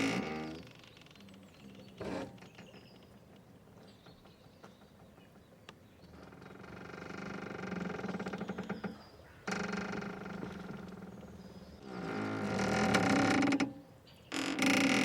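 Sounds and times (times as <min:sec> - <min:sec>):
boat ropes creaking under strain: 0:00.0 - 0:05.1, 0:06.1 - 0:15.0.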